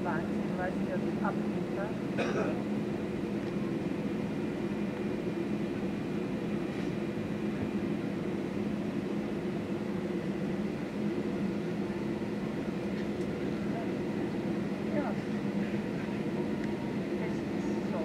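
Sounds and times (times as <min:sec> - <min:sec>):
jet engines droning in cabin: 0:00.0 - 0:18.0.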